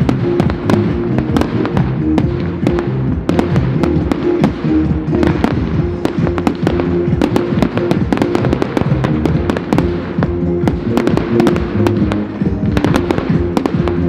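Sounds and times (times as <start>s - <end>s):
fireworks crackling: 0.0s - 14.0s
music playing: 0.0s - 14.0s.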